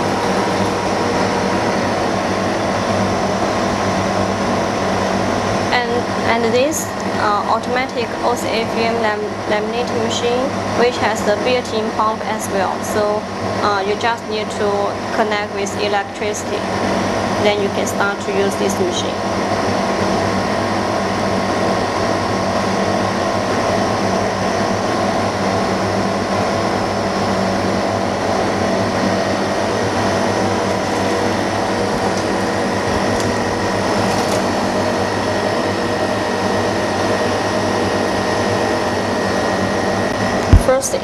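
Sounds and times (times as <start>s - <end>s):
workshop motor drone: 0.0s - 41.0s.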